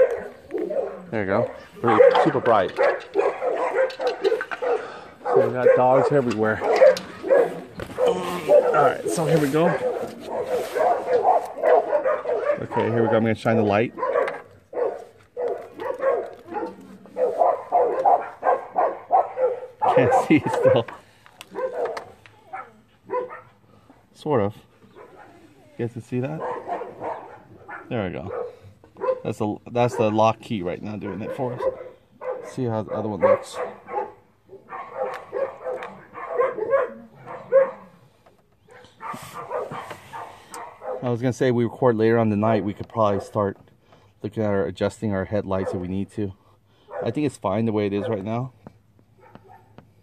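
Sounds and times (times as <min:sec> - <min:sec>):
dogs barking: 0:00.0 - 0:41.3, 0:42.0 - 0:43.6, 0:45.2 - 0:50.0.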